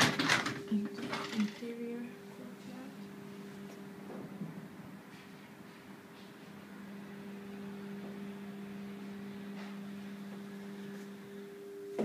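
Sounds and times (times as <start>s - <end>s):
steady low two-pitch hum: 0.1s - 12.0s.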